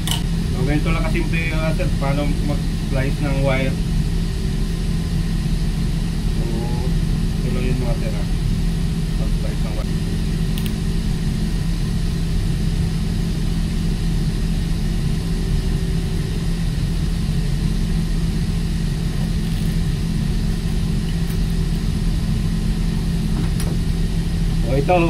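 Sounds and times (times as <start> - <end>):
ship engines droning: 0.0 - 25.0.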